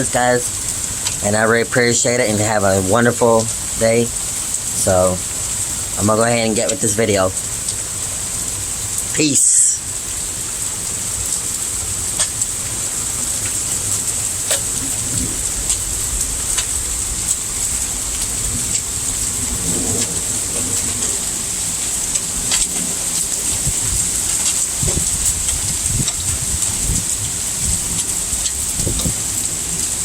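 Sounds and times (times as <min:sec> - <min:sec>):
heavy rain hissing: 0:00.0 - 0:30.0
raindrops tapping close by: 0:00.0 - 0:30.0.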